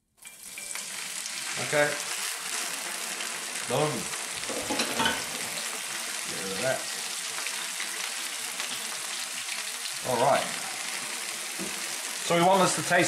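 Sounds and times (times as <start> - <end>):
lentils sizzling in hot oil: 0.0 - 13.0.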